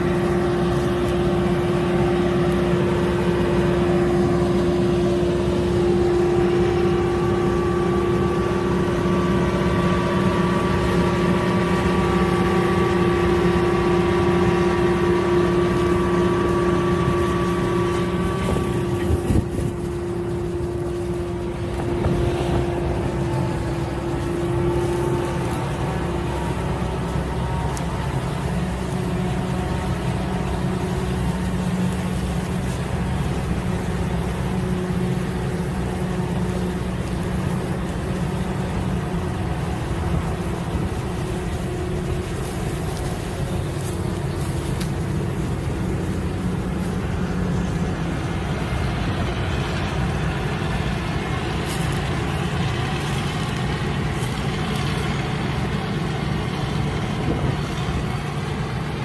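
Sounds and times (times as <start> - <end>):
harvester engine and machinery drone: 0.0 - 59.0.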